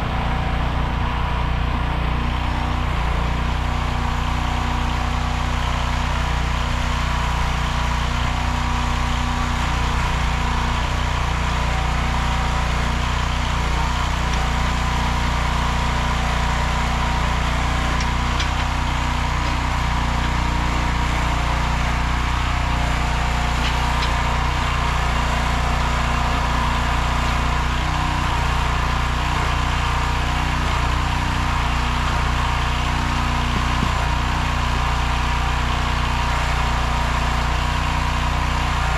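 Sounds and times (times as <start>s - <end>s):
backhoe engine running steadily: 0.0s - 38.9s.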